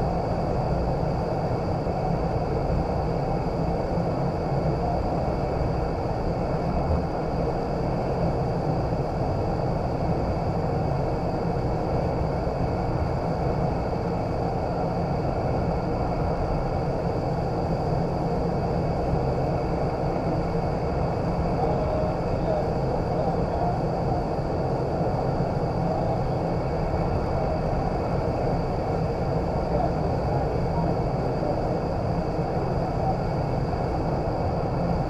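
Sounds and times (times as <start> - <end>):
faint high whine: 0.0 - 35.0
rush of fan-driven air: 0.0 - 35.0.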